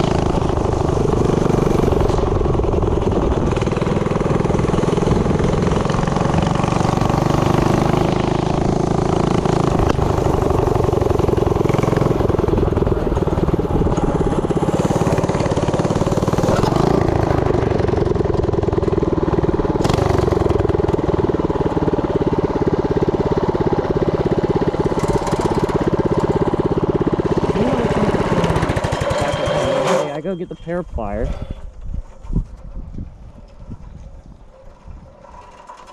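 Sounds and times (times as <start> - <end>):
mini bike engine running: 0.0 - 35.9.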